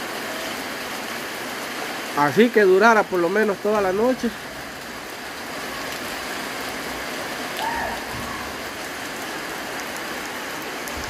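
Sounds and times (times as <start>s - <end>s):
light rain falling: 0.0s - 11.0s.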